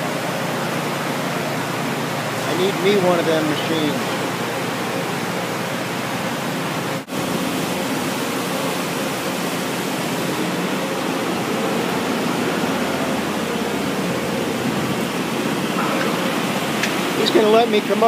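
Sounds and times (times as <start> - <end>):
faint machinery hum: 0.0 - 18.0
industrial machinery rushing noise: 0.0 - 18.0.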